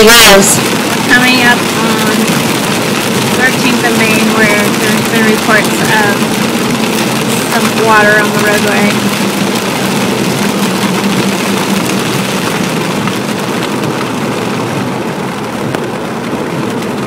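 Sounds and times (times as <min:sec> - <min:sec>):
low engine hum: 0:00.0 - 0:17.0
rain and wet road hiss: 0:00.0 - 0:17.0.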